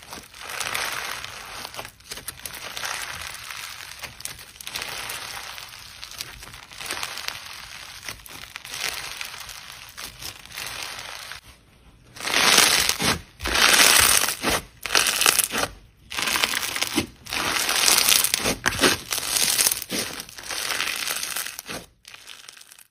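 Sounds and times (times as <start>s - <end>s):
crunchy slime crackling: 0.0s - 11.5s, 12.1s - 22.9s.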